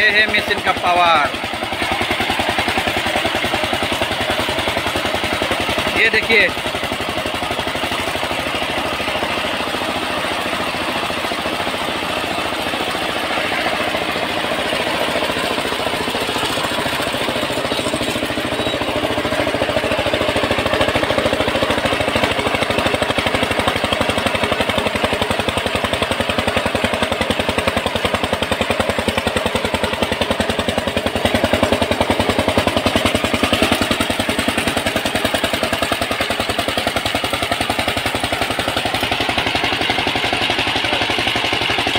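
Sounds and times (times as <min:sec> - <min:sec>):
diesel engine running: 0:00.0 - 0:41.9
water gushing from pipe: 0:00.0 - 0:41.9.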